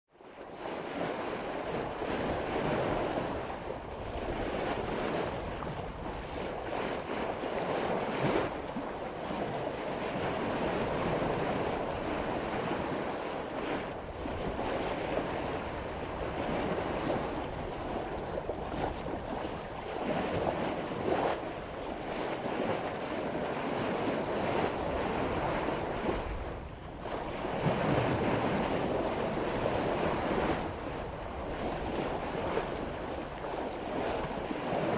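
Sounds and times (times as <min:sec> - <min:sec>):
water splashing along boat hull: 0:00.2 - 0:34.9
wind on microphone: 0:00.3 - 0:34.9.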